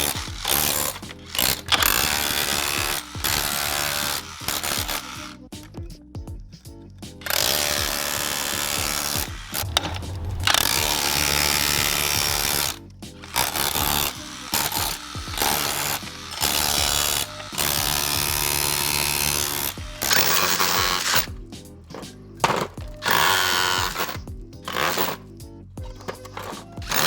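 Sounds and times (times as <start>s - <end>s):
rotary hammer chipping: 0.0s - 5.6s, 7.2s - 25.2s, 25.8s - 27.0s.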